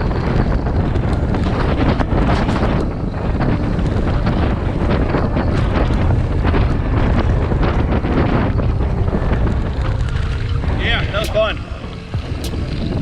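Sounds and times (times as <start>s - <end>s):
bike clicks and rattles: 0.0s - 11.4s, 12.0s - 13.0s
wind buffeting microphone: 0.0s - 13.0s.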